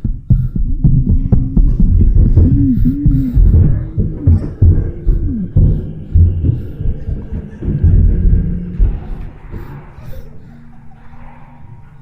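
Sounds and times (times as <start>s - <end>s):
deep throbbing thumps: 0.0s - 10.3s
low wavering hum: 0.0s - 12.0s.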